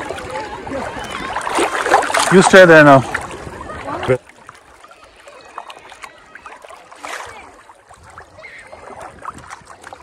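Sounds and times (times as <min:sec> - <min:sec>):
sea water lapping and sloshing: 0:00.0 - 0:10.0
small splashes and drips: 0:00.0 - 0:10.0.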